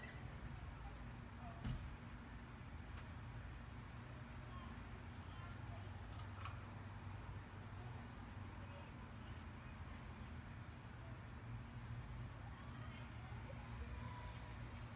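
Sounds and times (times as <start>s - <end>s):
insect chirps: 0.1s - 5.6s, 6.4s - 14.9s.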